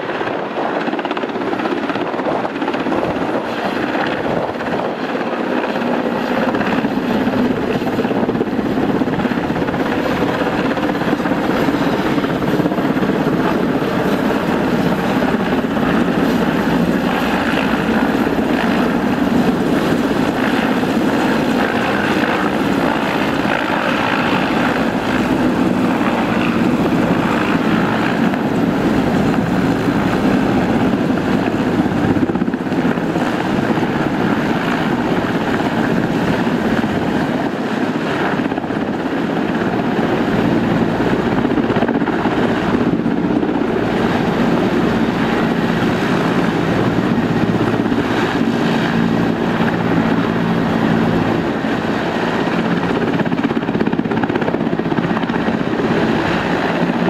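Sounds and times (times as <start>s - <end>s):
helicopter rotor and turbines: 0.0s - 57.0s.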